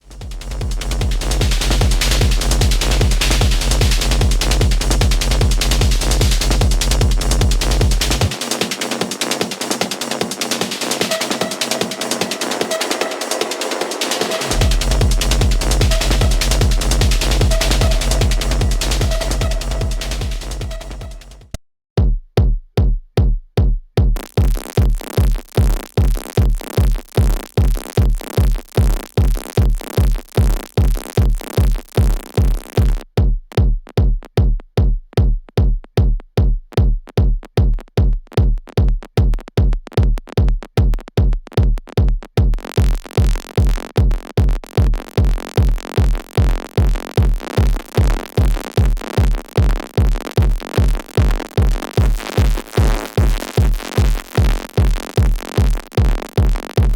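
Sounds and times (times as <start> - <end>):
techno beat: 0.0 - 56.9.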